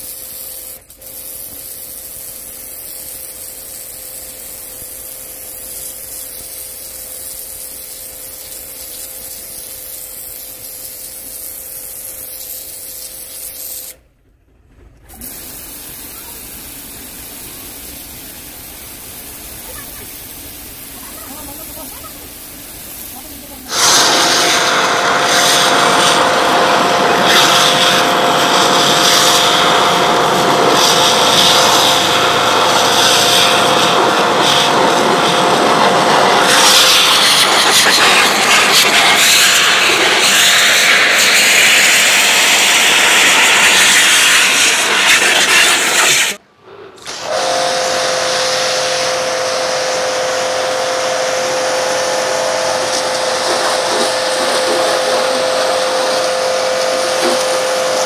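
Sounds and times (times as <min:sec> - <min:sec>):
pressure washer pump whine: 0:00.0 - 0:14.0, 0:15.0 - 0:46.4, 0:47.0 - 0:58.0
water jet hissing: 0:00.0 - 0:14.0, 0:15.1 - 0:46.4, 0:47.0 - 0:58.0.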